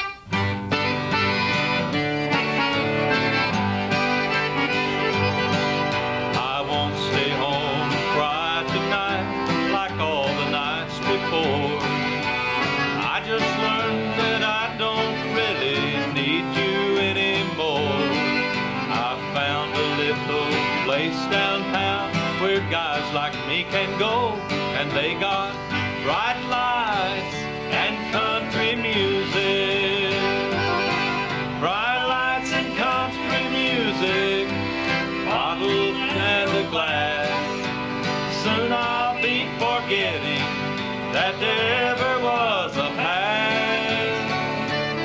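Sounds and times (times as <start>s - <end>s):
acoustic guitar country tune: 0.0s - 45.0s
sliding lead melody: 0.0s - 45.0s.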